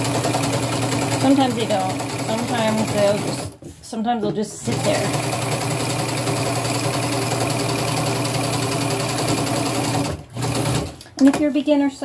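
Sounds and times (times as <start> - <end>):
electric sewing machine running: 0.0 - 3.6, 4.6 - 11.0.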